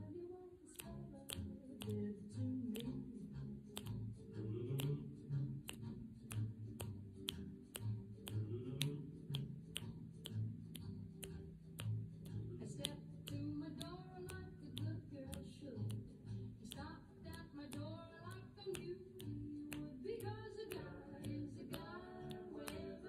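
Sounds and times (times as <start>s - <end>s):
snapping beat: 0.7s - 23.0s.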